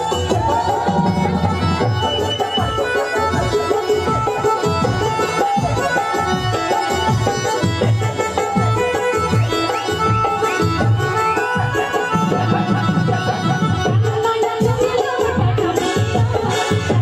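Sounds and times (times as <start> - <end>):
folk melody line: 0.0 - 17.0
hand drum rhythm: 0.0 - 17.0.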